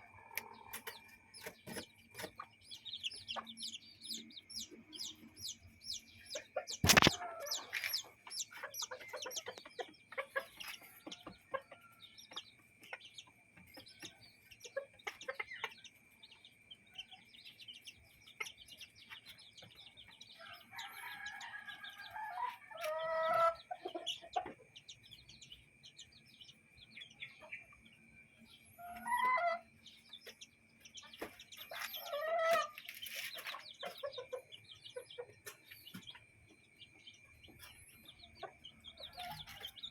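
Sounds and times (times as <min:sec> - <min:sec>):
chickens clucking: 0:00.0 - 0:39.9
chicks peeping: 0:00.0 - 0:39.9.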